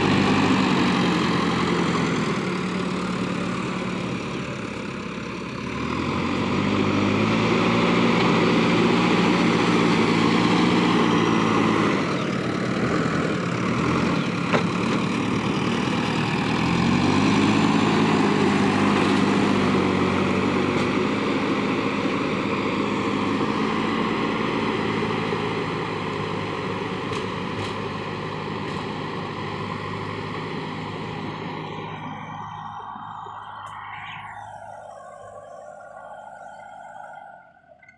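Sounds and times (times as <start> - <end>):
diesel engine revving: 0.0 - 37.9.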